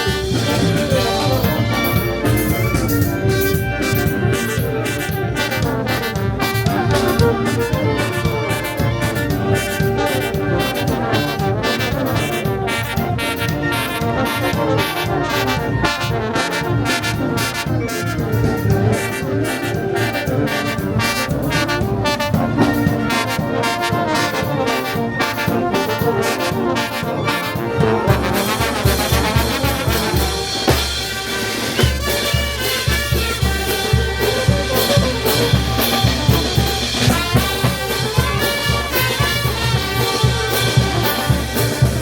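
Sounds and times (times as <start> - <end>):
brass band playing: 0.0 - 42.0
percussion beat: 0.0 - 42.0.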